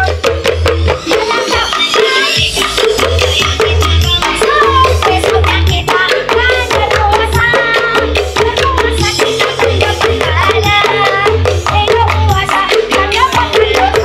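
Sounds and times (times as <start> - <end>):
loud dance music: 0.0 - 14.0
person singing: 1.1 - 14.0.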